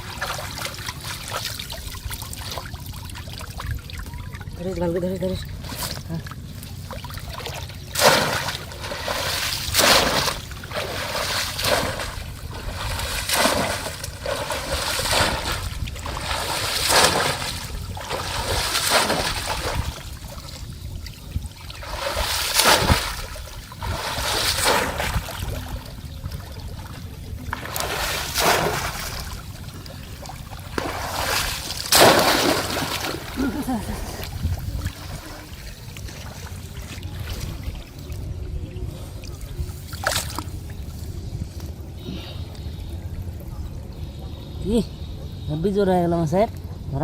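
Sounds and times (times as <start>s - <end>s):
splashing of shallow water: 0.0s - 38.3s, 39.2s - 41.0s.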